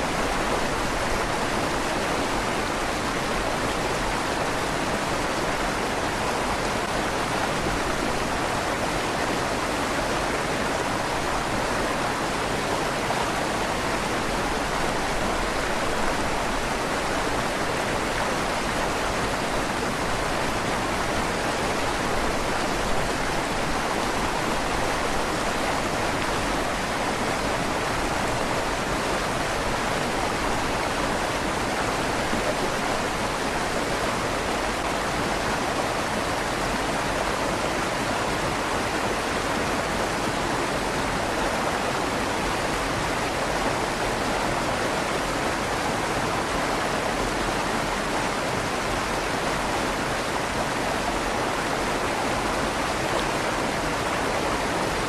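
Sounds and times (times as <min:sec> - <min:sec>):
river rushing under bridge: 0:00.0 - 0:55.0.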